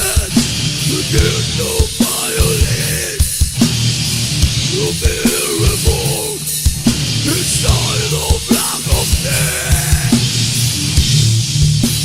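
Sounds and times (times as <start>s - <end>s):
distorted heavy metal band: 0.0s - 12.0s
drum kit striking low beats: 0.0s - 12.0s.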